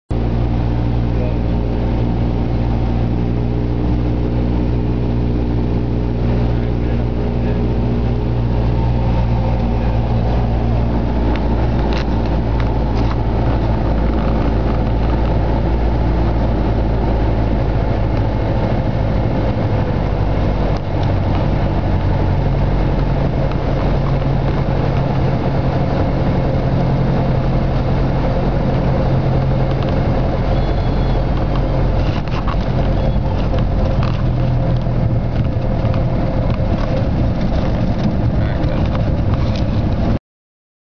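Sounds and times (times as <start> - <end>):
propeller plane engine running: 0.1 - 40.2.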